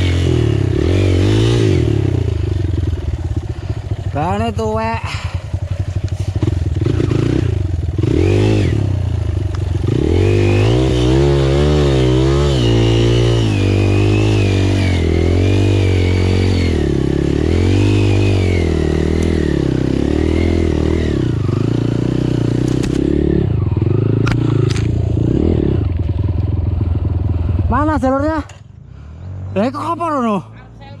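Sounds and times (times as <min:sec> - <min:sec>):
motorcycle engine revving: 0:00.0 - 0:30.3.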